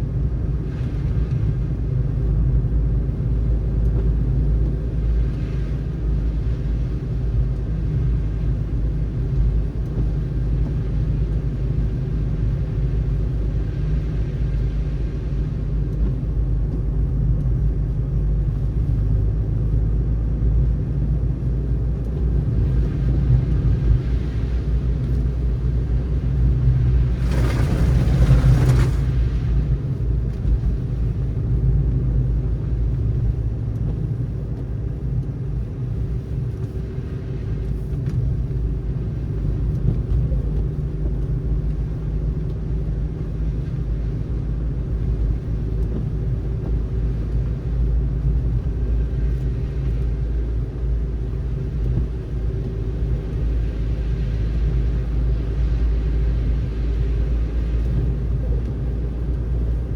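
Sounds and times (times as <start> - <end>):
car driving on snowy road: 0.0 - 59.9.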